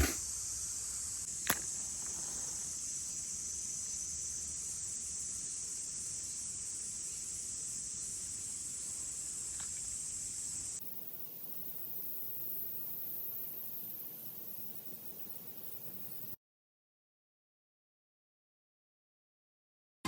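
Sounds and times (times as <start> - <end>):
high-pitched insect chorus: 0.0 - 16.4.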